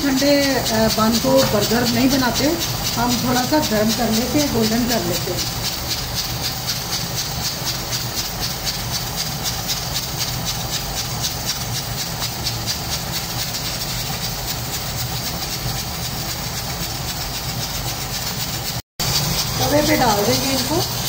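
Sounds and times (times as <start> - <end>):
pressure cooker hissing: 0.0 - 21.0.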